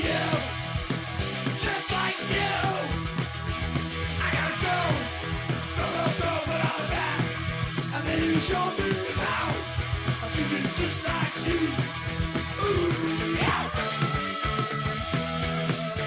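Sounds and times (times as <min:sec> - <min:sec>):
punk rock band playing: 0:00.0 - 0:16.0.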